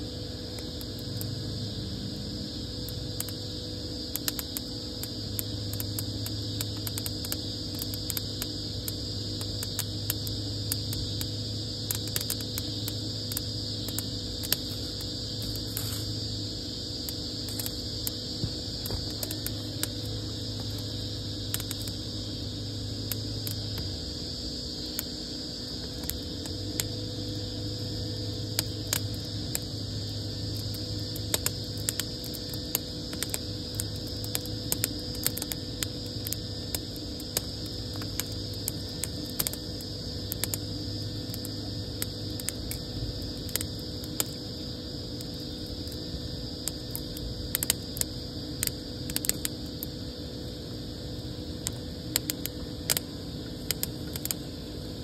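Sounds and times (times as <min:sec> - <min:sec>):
steady background hum: 0:00.0 - 0:55.0
wood fire crackling and popping: 0:00.4 - 0:01.4, 0:02.2 - 0:27.0, 0:28.1 - 0:50.2, 0:51.2 - 0:55.0.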